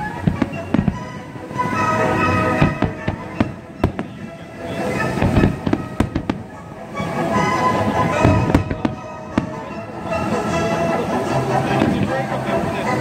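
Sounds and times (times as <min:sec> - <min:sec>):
firework bangs and crackle: 0:00.0 - 0:10.3, 0:11.6 - 0:12.5
music: 0:00.0 - 0:13.0.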